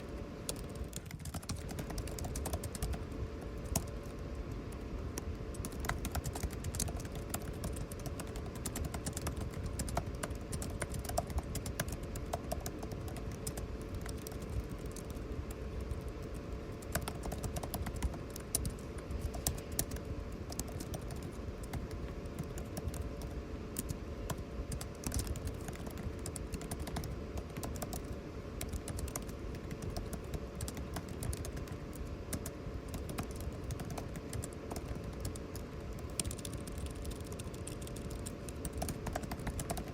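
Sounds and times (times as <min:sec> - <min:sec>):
air conditioning hum: 0:00.0 - 0:39.9.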